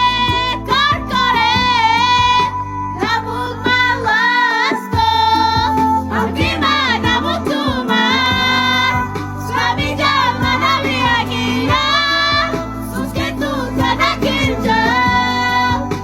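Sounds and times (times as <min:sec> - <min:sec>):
backing band with bass and beat: 0:00.0 - 0:16.0
person singing: 0:00.0 - 0:16.0.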